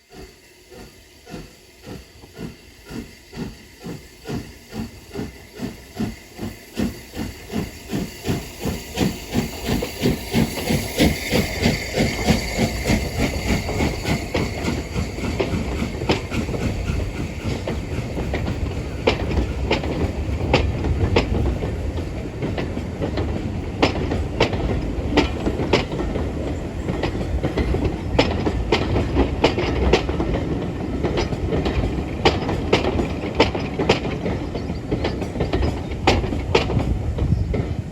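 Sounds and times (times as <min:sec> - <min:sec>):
steam locomotive exhaust beats: 0:00.0 - 0:37.9
train rumbling by: 0:00.0 - 0:37.9
wheels clacking over rail joints: 0:00.7 - 0:37.8.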